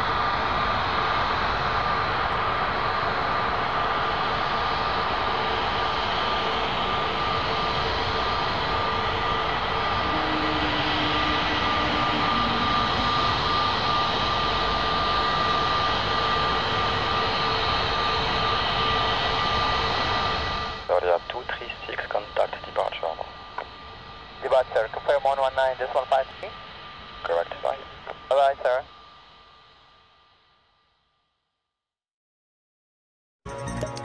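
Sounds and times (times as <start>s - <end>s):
jet airliner taking off: 0.0s - 29.1s
high engine fan whine: 0.0s - 29.9s.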